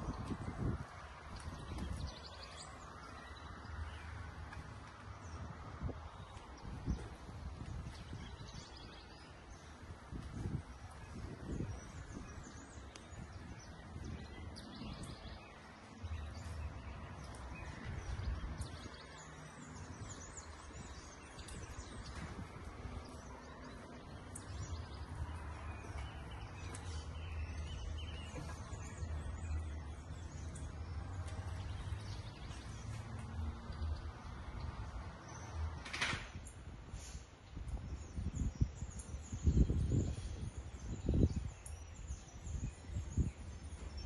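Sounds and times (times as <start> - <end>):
small birds chirping: 0.0 - 35.8, 36.4 - 44.0.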